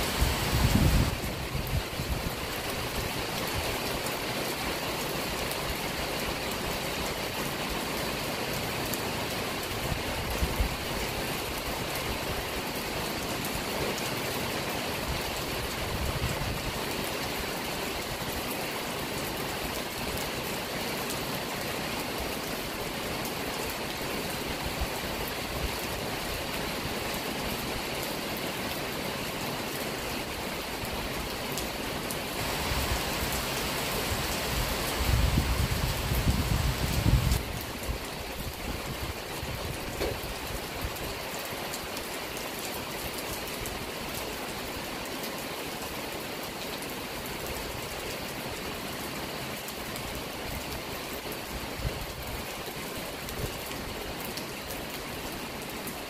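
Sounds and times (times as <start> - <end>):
steady rain on plants: 0.0 - 56.0.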